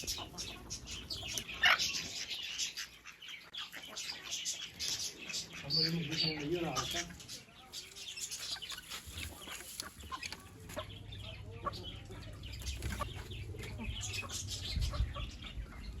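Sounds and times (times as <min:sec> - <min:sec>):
chickens clucking: 0:00.0 - 0:16.0
chicks peeping: 0:00.0 - 0:16.0.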